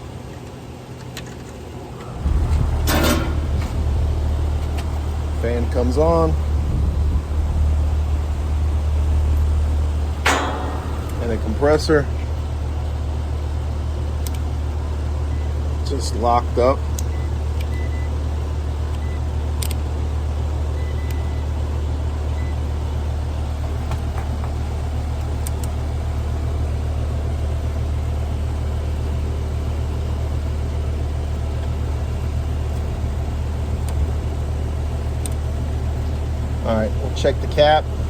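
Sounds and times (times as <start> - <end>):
compressor low hum: 0.0 - 38.0
condenser fan running: 0.0 - 38.0.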